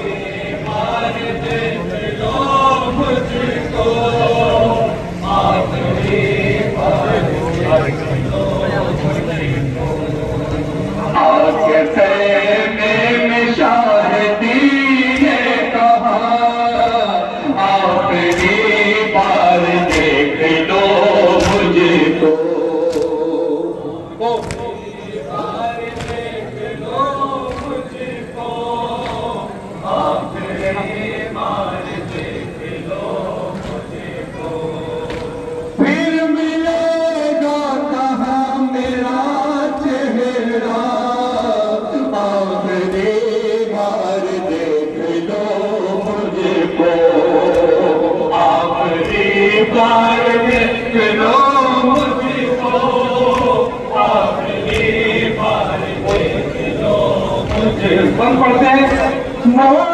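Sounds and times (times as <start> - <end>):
men chanting a cappella: 0.0 - 59.9
mourners beating their chests: 11.2 - 59.9.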